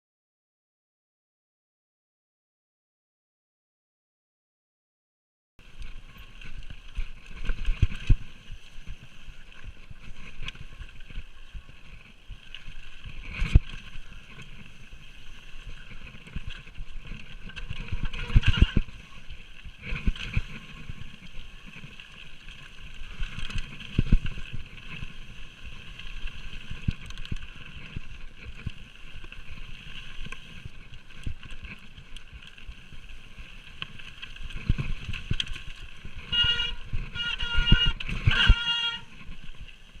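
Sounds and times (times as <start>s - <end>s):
bike rattling and knocking: 5.6s - 40.0s
bike tyres rumbling over dirt: 5.6s - 40.0s.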